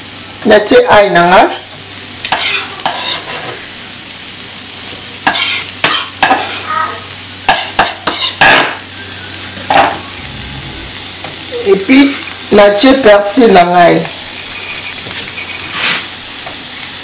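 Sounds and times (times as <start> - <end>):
onion sizzling in oil: 0.0 - 17.0.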